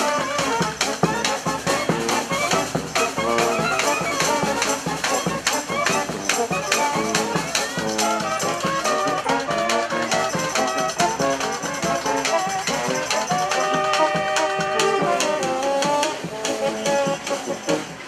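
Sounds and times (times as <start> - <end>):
drums keeping a beat: 0.0 - 18.0
trumpets and trombones playing: 0.0 - 18.0.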